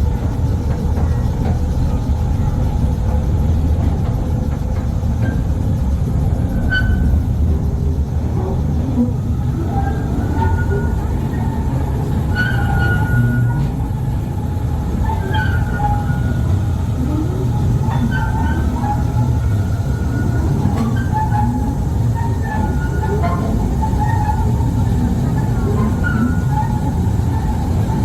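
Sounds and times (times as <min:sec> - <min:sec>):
train wheels rumbling on rails: 0:00.0 - 0:28.0
high wheel squeals: 0:05.2 - 0:28.0.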